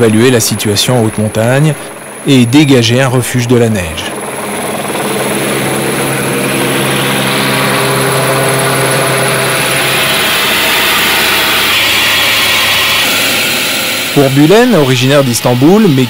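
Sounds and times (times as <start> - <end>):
helicopter flying: 0.0 - 16.0.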